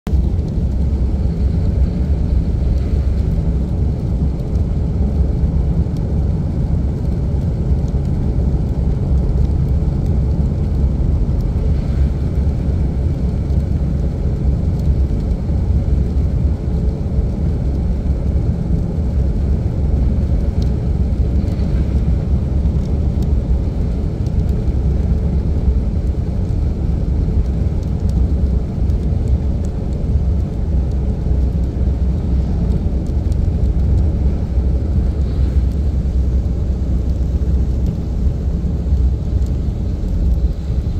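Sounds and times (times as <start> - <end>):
vehicle rumbling inside cabin: 0.0 - 40.9.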